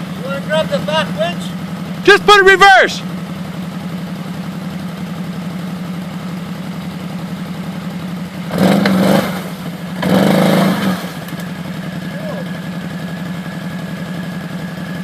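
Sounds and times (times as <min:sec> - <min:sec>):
atv engine idling and revving: 0:00.0 - 0:15.0.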